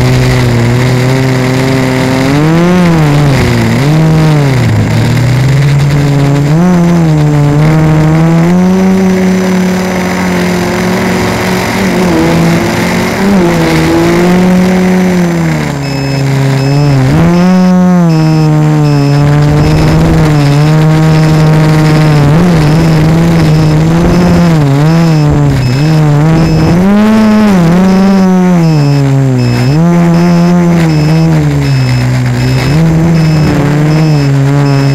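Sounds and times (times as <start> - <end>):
quadcopter propeller hum: 0.0 - 34.9.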